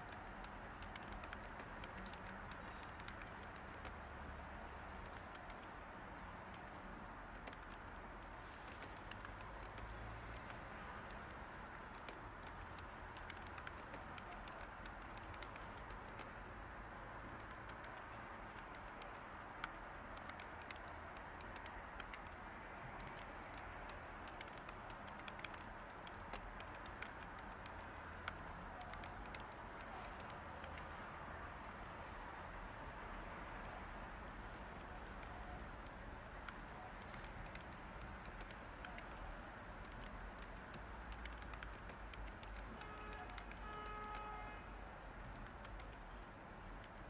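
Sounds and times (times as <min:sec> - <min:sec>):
typing on computer keyboard: 0:00.0 - 0:16.5, 0:17.2 - 0:31.8, 0:34.3 - 0:44.5, 0:45.1 - 0:47.0
faint white-noise hiss: 0:00.0 - 0:47.0.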